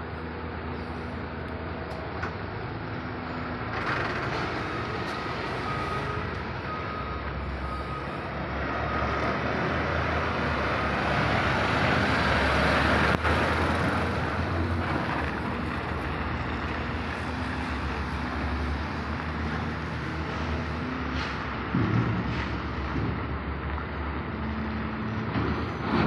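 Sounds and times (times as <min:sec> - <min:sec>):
trucks driving past: 0:00.0 - 0:26.0.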